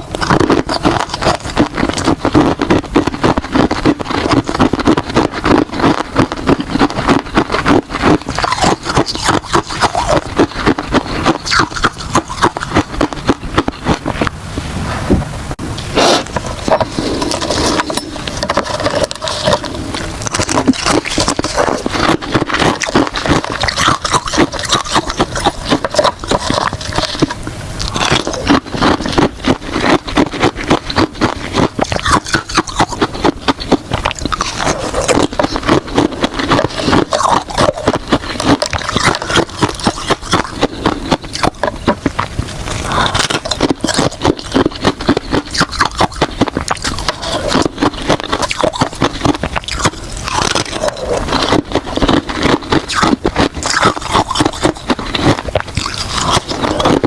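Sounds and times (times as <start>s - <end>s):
person crunching ice: 0.0s - 14.4s, 15.9s - 57.0s.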